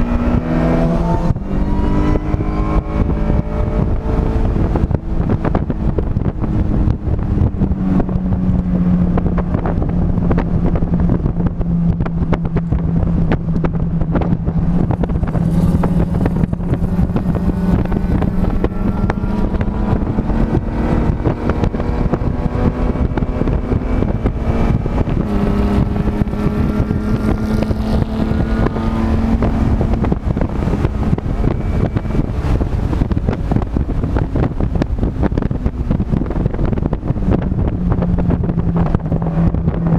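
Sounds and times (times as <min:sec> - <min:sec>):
race car engine running hard: 0:00.0 - 0:39.9
wind noise on microphone: 0:00.0 - 0:39.9.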